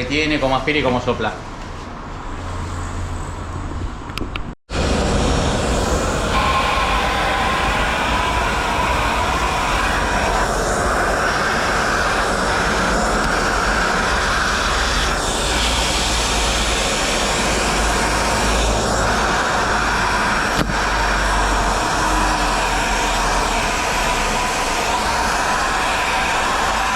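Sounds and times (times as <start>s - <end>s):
air rushing through hose: 4.7s - 26.9s
shop vacuum motor whining: 4.8s - 26.9s.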